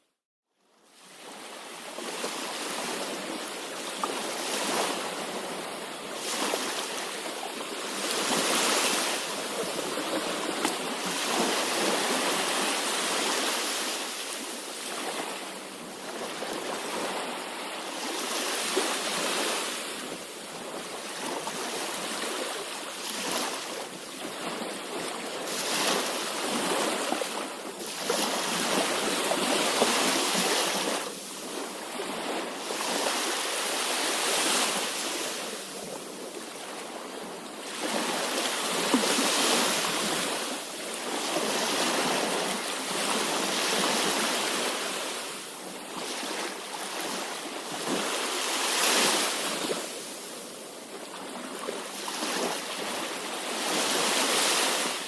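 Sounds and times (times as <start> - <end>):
sea waves washing onto shore: 1.0 - 55.0.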